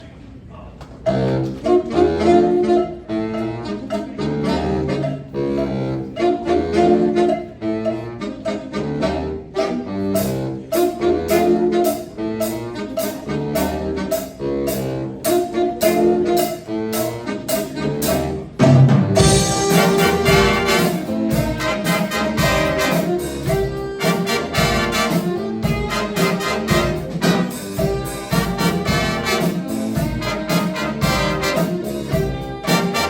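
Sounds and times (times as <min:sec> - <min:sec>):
jazz band playing: 0:00.9 - 0:33.0.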